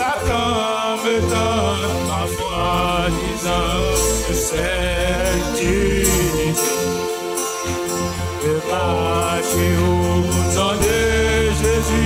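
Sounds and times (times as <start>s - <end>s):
person singing: 0.0s - 7.5s, 8.3s - 12.0s
acoustic guitar: 0.0s - 12.0s
sustained bass notes: 0.0s - 12.0s
wavering melody line: 0.0s - 12.0s.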